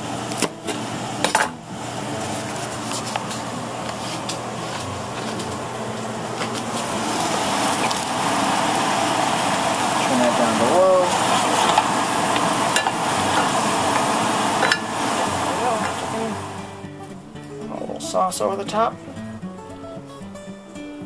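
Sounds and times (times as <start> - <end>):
sauce bubbling and sizzling: 0.0 - 17.6.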